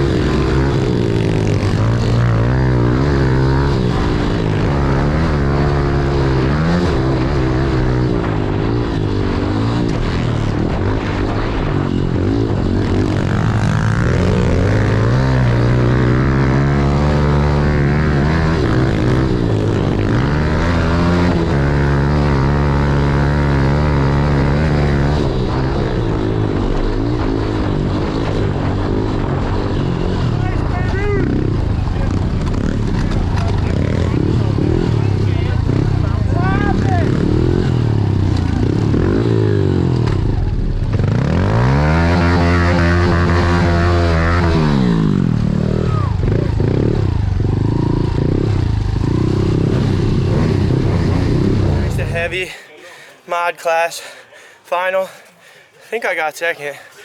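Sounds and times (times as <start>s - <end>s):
motorbike engine revving: 0.0s - 53.1s.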